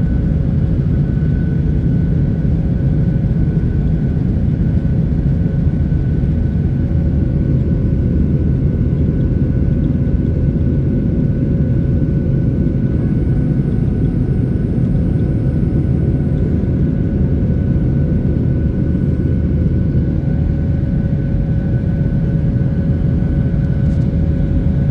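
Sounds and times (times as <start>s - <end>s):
constant hum: 0.0s - 24.9s
jet engines rumbling: 0.0s - 24.9s.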